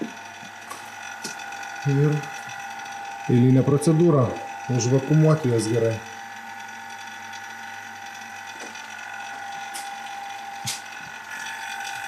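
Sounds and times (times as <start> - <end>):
machine high whine: 0.0 - 12.0.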